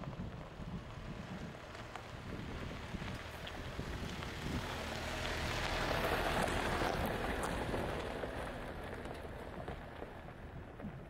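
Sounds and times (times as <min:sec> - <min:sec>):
tyres crunching over gravel: 0:00.0 - 0:11.0.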